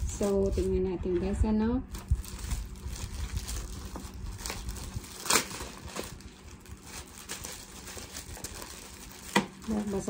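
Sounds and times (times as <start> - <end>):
plastic bag and paper crinkling: 0.0 - 10.0.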